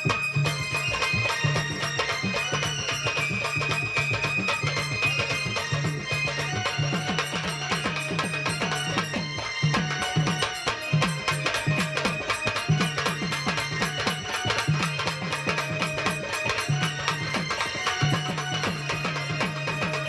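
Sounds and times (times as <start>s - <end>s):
instrumental folk music: 0.0s - 20.0s.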